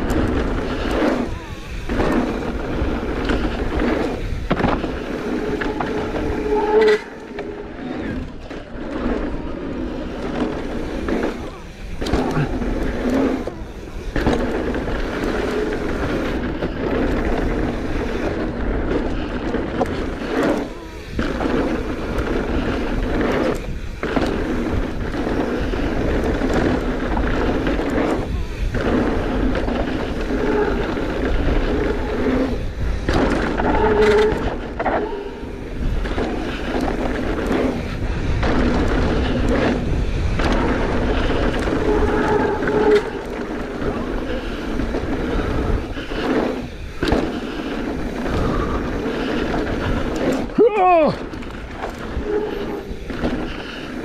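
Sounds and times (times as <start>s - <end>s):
bike rattling: 0.0s - 54.0s
bike tyres rolling on dirt: 0.0s - 54.0s.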